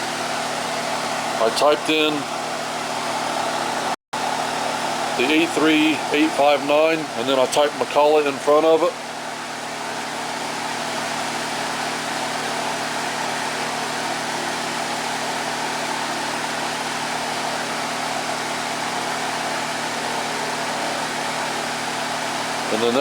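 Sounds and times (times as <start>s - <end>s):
electric fan running: 0.0s - 23.0s.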